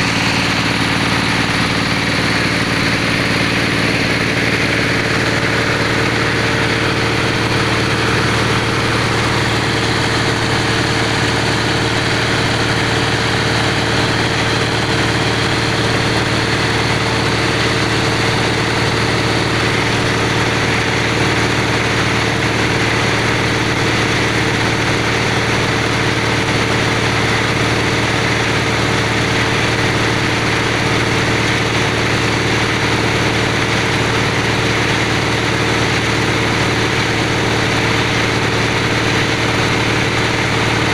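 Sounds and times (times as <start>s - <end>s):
drilling machine engine running: 0.0s - 40.9s.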